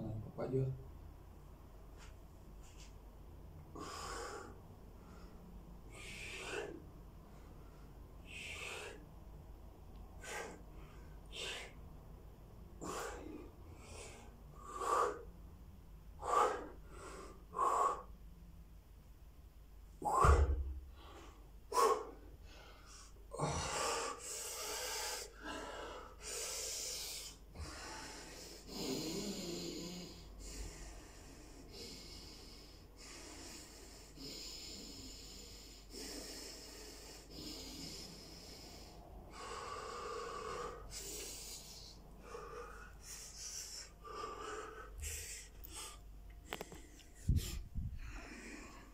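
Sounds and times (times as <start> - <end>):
man breathing hard: 3.6 - 9.4, 10.0 - 18.2, 19.9 - 48.9.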